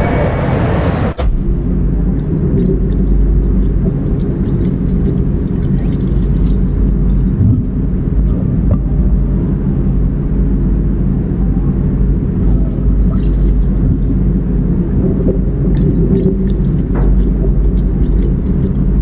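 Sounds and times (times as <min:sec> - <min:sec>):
low rumbling drone: 0:00.0 - 0:19.0.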